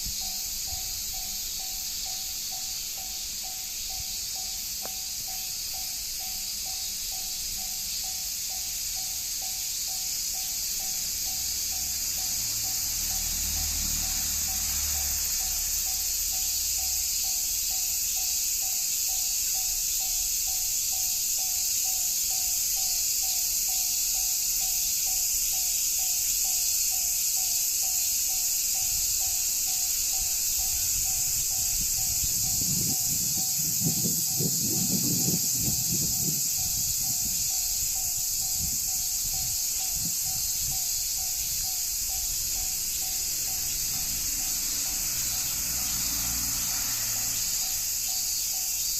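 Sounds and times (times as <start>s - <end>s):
level-crossing warning bell: 0.0s - 48.9s
low train rumble: 0.0s - 48.9s.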